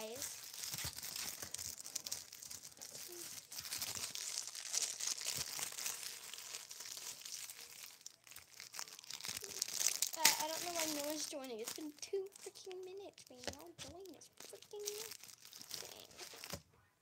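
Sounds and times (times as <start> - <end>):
foil wrapper crinkling: 0.0 - 16.6.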